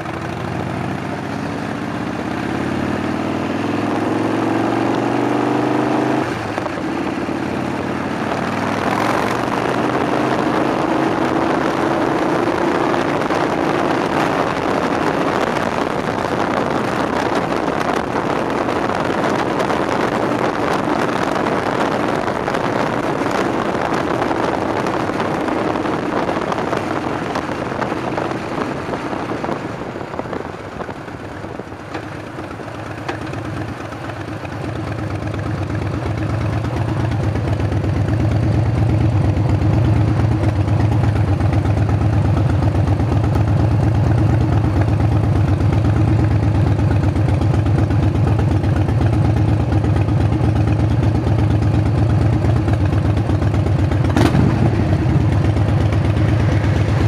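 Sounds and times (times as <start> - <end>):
motorcycle engine running: 0.0 - 57.0
wind rush on microphone: 6.1 - 57.0.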